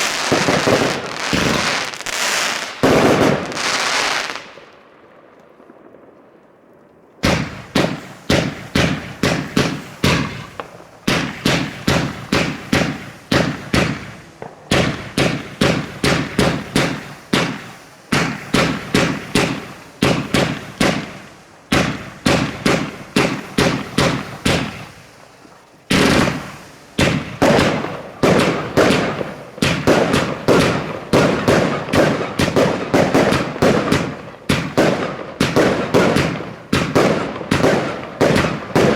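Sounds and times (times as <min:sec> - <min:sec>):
fireworks banging: 0:00.0 - 0:04.8, 0:07.2 - 0:38.9.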